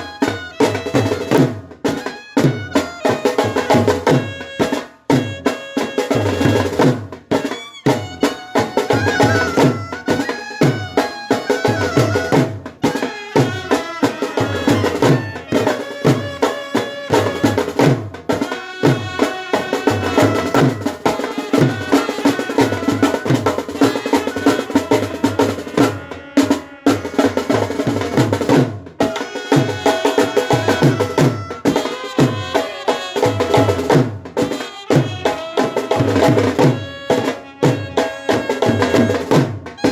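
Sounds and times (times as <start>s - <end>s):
steady drum beats: 0.0s - 39.9s
wind instruments playing melody: 0.0s - 39.9s.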